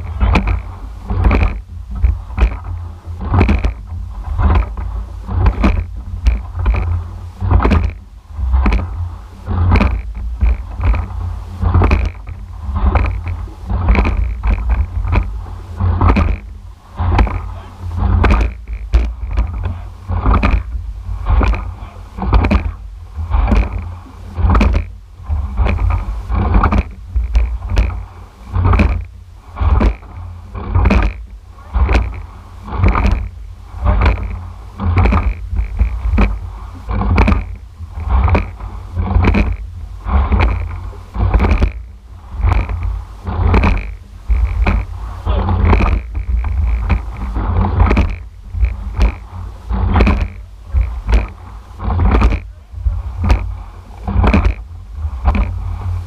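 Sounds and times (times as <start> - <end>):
low rumble of wind and water: 0.0 - 56.0
oars knocking and splashing: 0.0 - 56.0.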